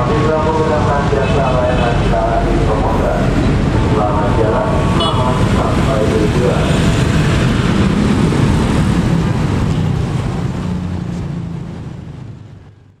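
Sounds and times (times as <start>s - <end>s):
cars driving past: 0.0s - 13.0s
motorcycles driving past: 1.2s - 13.0s.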